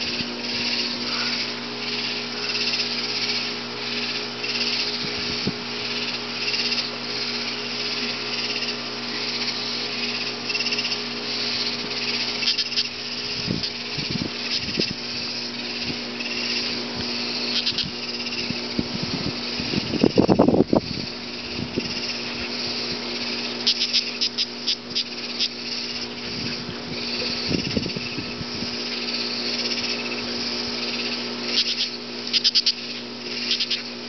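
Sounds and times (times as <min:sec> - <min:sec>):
katydid buzzing: 0:00.0 - 0:34.0.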